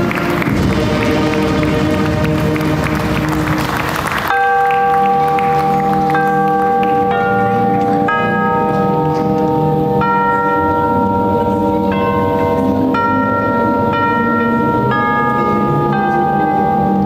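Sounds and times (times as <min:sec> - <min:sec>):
slow melody on bells: 0:00.0 - 0:17.0.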